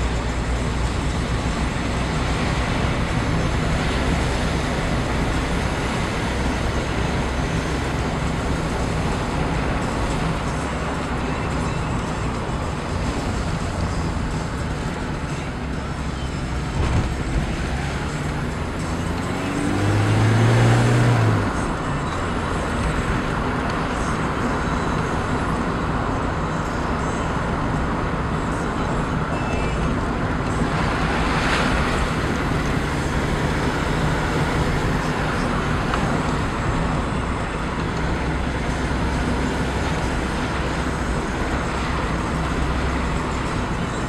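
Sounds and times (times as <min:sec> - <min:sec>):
car engine running: 0:00.0 - 0:44.0.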